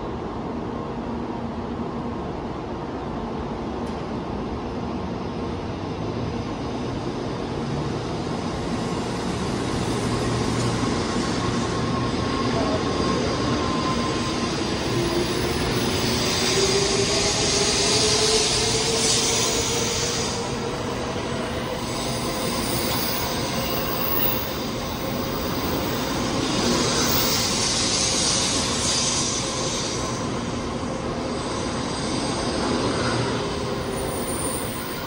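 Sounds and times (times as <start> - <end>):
train wheel rumble: 0.0 - 35.0.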